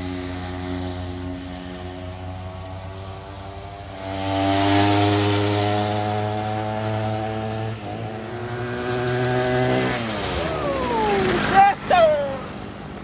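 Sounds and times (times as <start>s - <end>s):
small motorbike engine revving: 0.0s - 12.5s.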